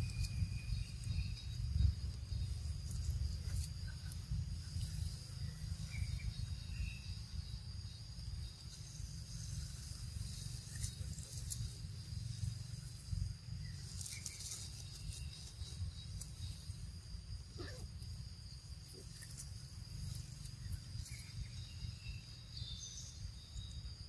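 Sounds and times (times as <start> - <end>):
faint chirps: 0.0 - 24.0
high-pitched insect drone: 0.0 - 24.0.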